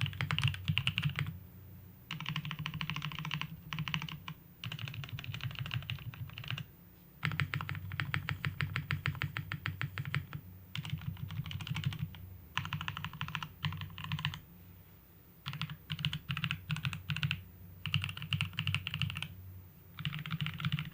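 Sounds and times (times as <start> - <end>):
mechanical keyboard typing: 0.0 - 1.4, 2.1 - 14.4, 15.4 - 19.3, 20.0 - 20.9.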